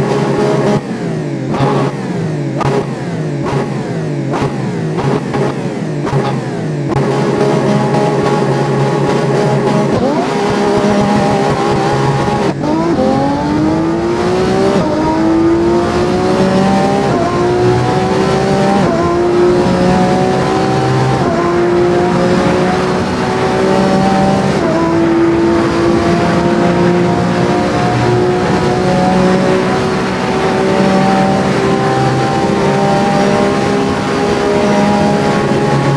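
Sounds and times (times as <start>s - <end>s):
car engine revving through upshifts: 0.0s - 35.9s.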